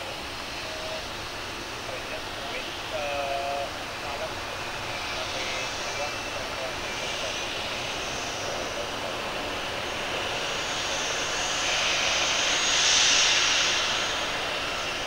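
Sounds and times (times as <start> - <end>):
jet airliner whine and hiss: 0.0 - 15.0.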